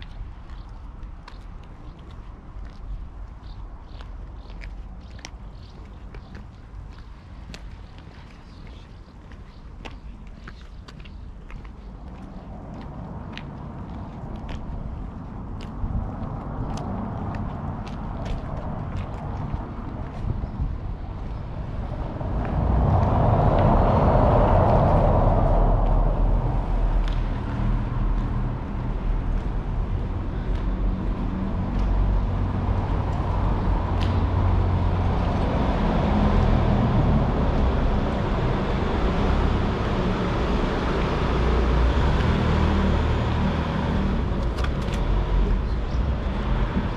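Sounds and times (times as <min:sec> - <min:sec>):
car tyres rumbling over cobblestones: 0:00.0 - 0:46.9.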